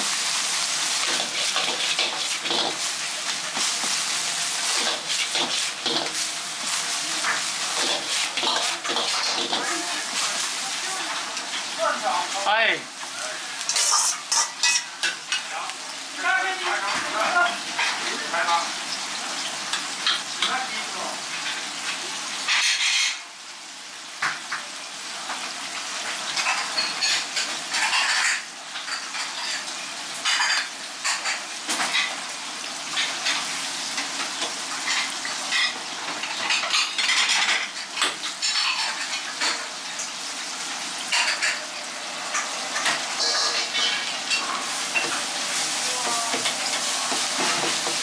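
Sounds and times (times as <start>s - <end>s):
rice sizzling in a wok: 0.0s - 48.0s.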